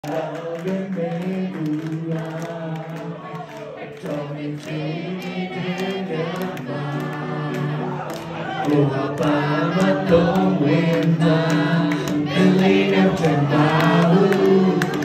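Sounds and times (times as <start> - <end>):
crowd singing along: 0.0 - 15.0
male singer singing: 0.0 - 15.0.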